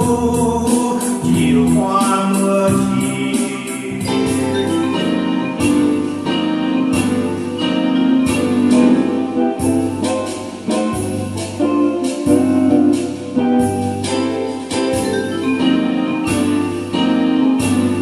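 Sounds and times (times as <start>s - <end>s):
electronic keyboard music: 0.0s - 18.0s.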